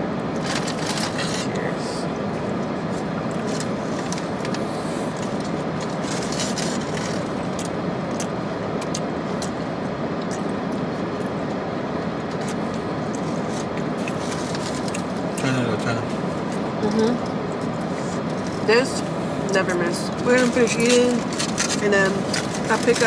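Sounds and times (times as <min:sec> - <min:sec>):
road and engine rumble in car: 0:00.0 - 0:23.0.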